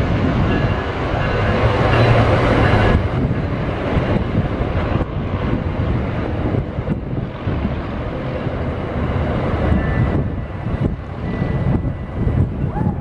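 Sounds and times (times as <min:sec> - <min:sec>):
passenger train rumbling past: 0:00.0 - 0:13.0
wind buffeting microphone: 0:00.0 - 0:13.0.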